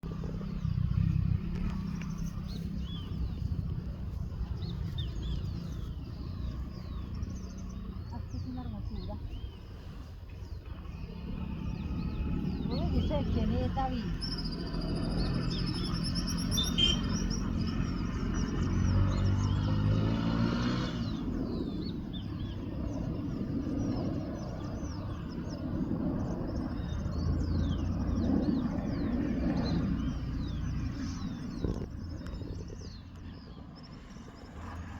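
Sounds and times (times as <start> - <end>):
steady low rumble: 0.0 - 16.6, 21.1 - 34.9
birds chirping: 0.0 - 34.9.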